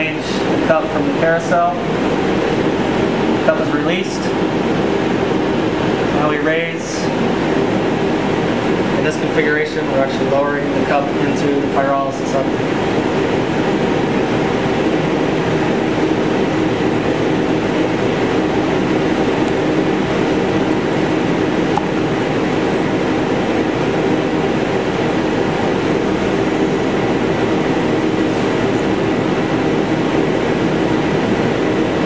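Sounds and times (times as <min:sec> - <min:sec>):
air handling hum: 0:00.0 - 0:32.0.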